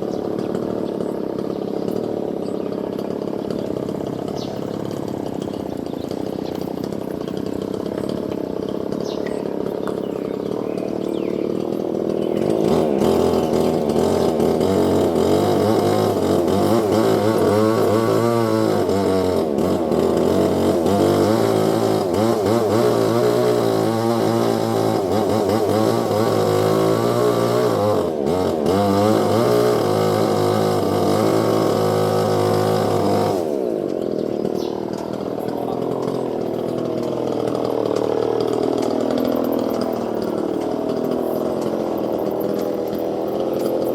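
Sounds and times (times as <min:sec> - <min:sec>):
small engine running: 0:00.0 - 0:43.9.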